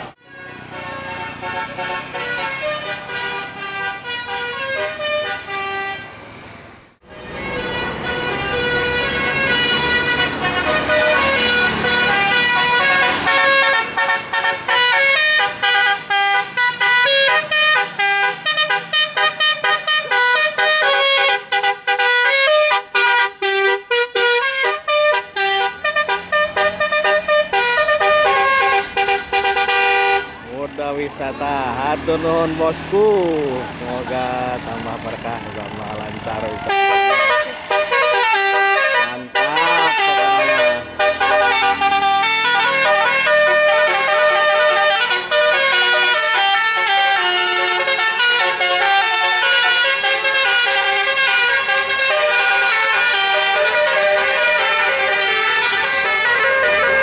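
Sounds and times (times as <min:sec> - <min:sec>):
horn playing a tune: 0:00.3 - 0:06.3, 0:07.1 - 0:57.0.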